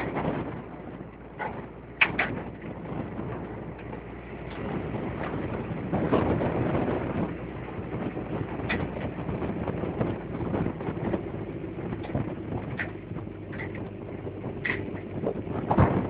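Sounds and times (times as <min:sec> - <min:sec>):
vehicle road and engine noise: 0:00.0 - 0:16.0
wind: 0:00.0 - 0:16.0.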